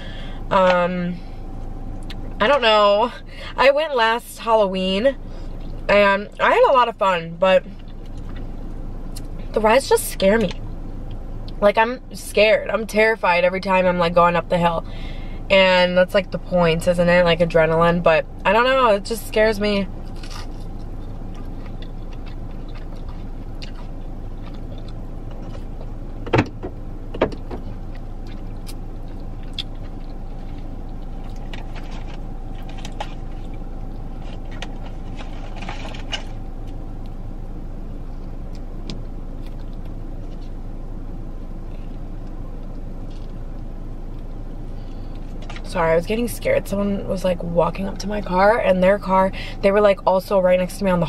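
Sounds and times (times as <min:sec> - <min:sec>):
car cabin hum: 0:00.0 - 0:51.0.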